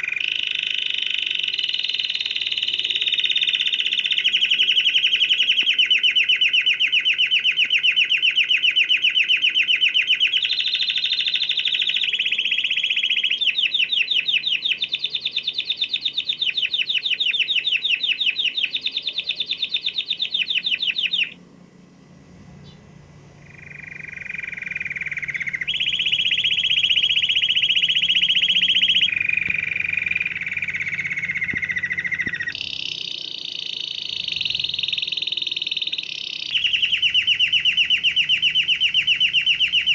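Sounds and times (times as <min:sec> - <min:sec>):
canary singing trilled rolls: 0:00.0 - 0:39.9.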